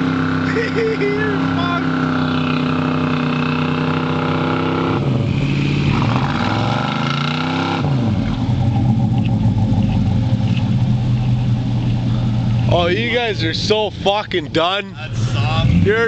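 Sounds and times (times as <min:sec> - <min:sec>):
truck engine revving under load: 0:00.0 - 0:16.0.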